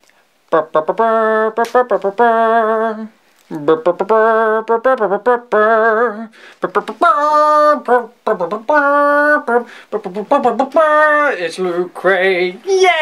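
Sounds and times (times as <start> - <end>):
man singing a cappella: 0.3 - 13.0.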